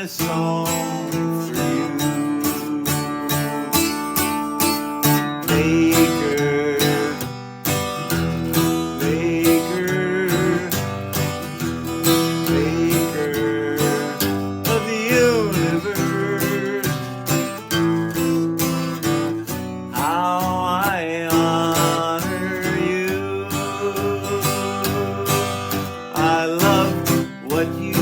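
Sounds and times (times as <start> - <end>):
acoustic guitar strumming: 0.0 - 28.0
melodic guitar lines: 0.0 - 28.0.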